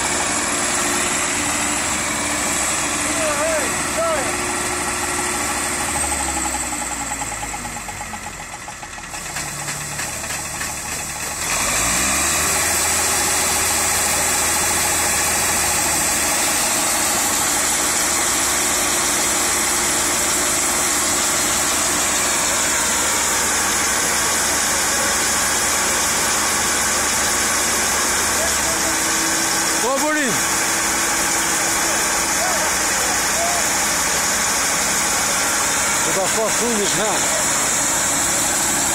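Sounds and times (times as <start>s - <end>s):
combine harvester diesel engine revving: 0.0s - 38.9s.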